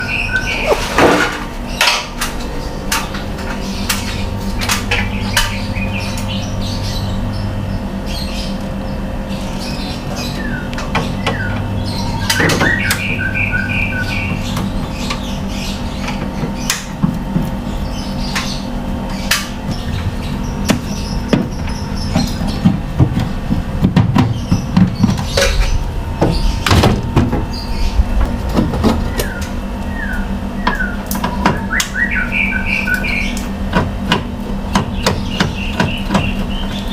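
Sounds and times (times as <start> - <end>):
steady electrical hum: 0.0 - 36.9.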